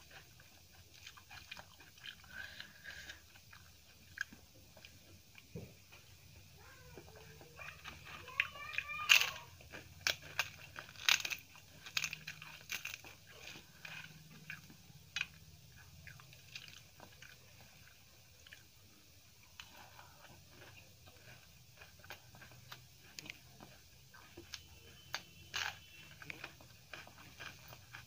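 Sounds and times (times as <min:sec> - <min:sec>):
crunching papadam: 0:00.0 - 0:28.0
soft chewing: 0:00.0 - 0:28.0.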